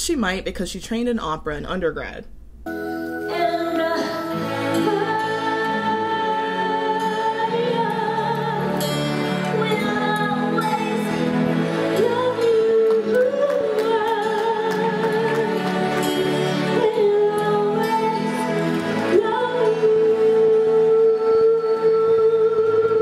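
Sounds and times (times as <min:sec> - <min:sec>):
instrumental backing music: 0:02.2 - 0:23.0
woman singing with vibrato: 0:03.2 - 0:23.0.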